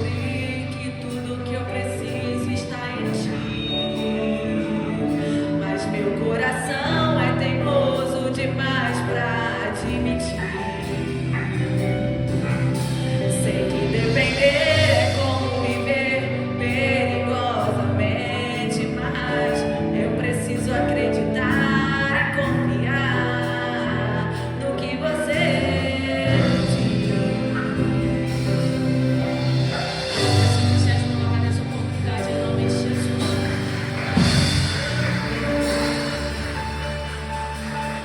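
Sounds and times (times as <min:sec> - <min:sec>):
instrumental accompaniment: 0:00.0 - 0:38.0
voices singing worship song: 0:00.0 - 0:38.0.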